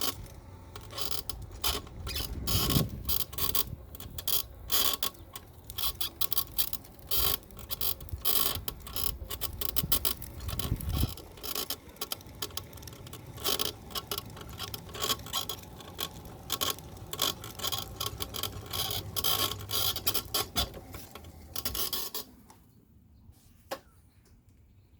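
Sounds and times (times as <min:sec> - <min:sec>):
wheelchair rolling rumble: 0:00.0 - 0:22.4
seat post creaking and clicking: 0:00.0 - 0:22.6.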